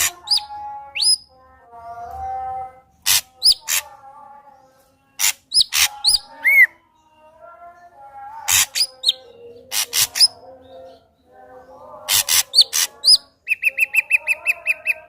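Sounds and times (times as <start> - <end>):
drongo singing: 0.0 - 15.0.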